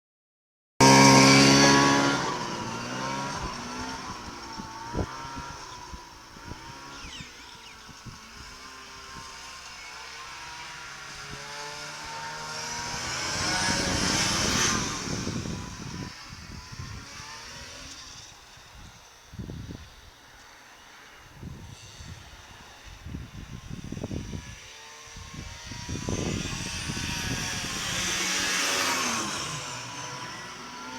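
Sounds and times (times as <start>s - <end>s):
high turbo whine: 0.8s - 30.9s
snowmobile engine passing: 0.8s - 30.9s.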